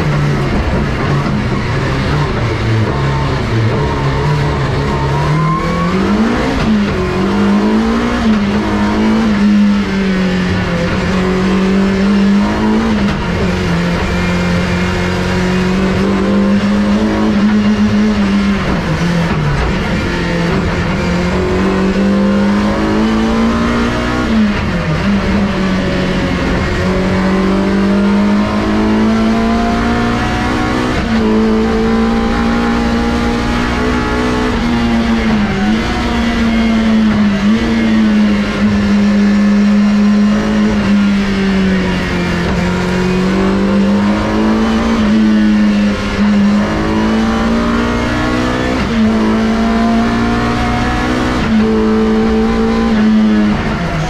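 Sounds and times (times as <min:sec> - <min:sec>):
racing engine revving: 0:00.0 - 0:54.0.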